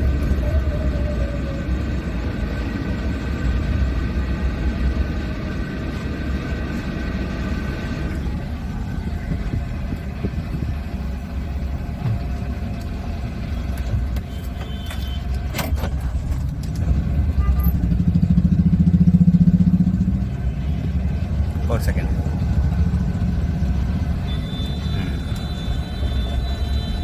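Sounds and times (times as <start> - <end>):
engine and road rumble: 0.0 - 27.0.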